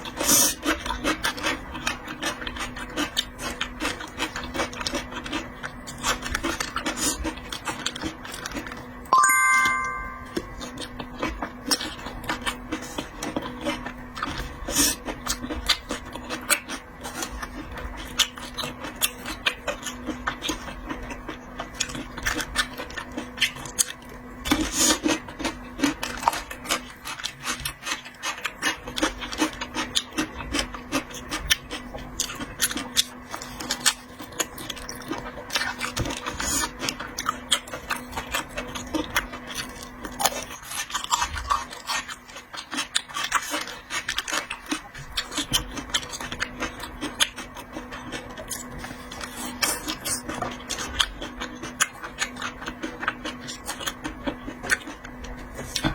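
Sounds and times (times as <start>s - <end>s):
person chewing and smacking: 0.0s - 9.1s, 9.7s - 55.9s.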